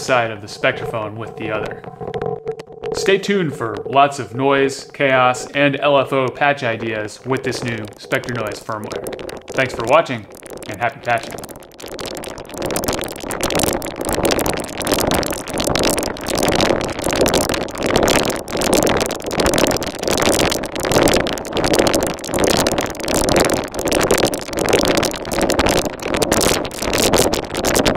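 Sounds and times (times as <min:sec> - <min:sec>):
pulsing noisy synthesizer tone: 0:00.0 - 0:27.9.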